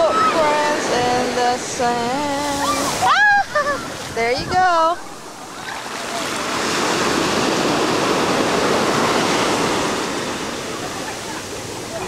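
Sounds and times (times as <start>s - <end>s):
waves breaking on sand: 0.0s - 12.0s.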